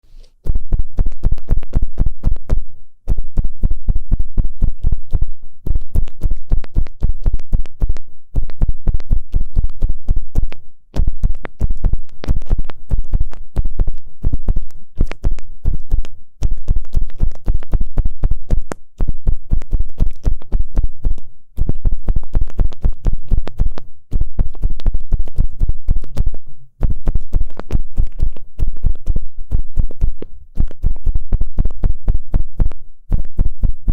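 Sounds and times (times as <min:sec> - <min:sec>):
ear pick scratching microphone: 0:00.0 - 0:33.9.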